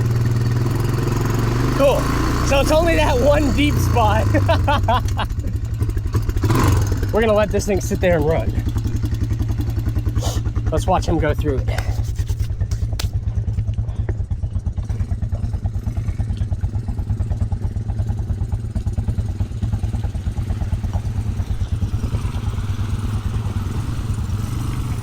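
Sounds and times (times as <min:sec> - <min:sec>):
atv engine idling: 0:00.0 - 0:25.0
passing atv engine: 0:00.0 - 0:25.0.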